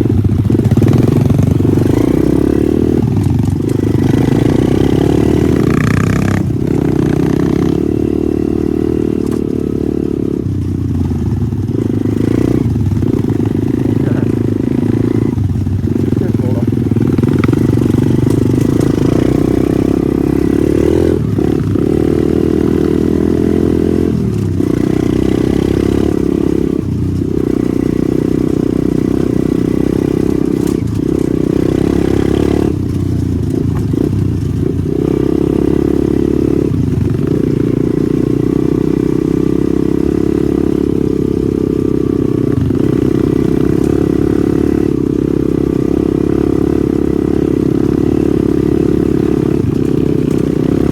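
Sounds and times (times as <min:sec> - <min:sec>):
small motorcycle engine at high revs: 0:00.0 - 0:50.9.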